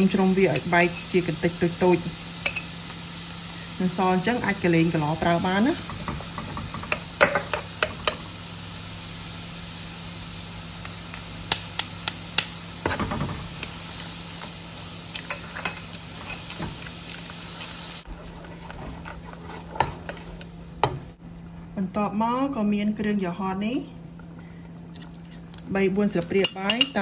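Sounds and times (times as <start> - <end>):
steady sizzle: 0.0 - 21.6.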